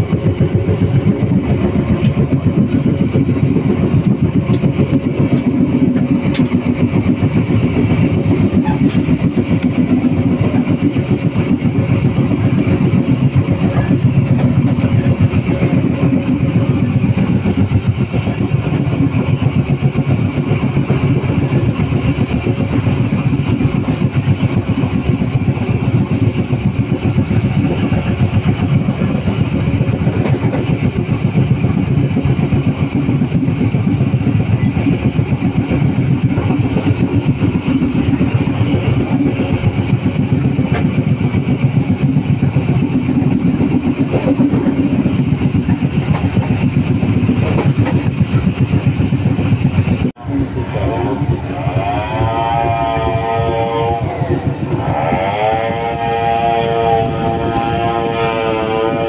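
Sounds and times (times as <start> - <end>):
train rumble: 0.0 - 59.0.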